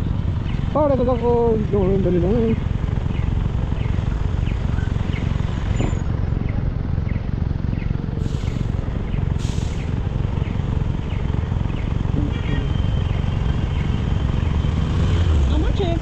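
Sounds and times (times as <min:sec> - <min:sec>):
motorcycle engine rumble: 0:00.0 - 0:16.0
wind and road noise: 0:00.0 - 0:16.0.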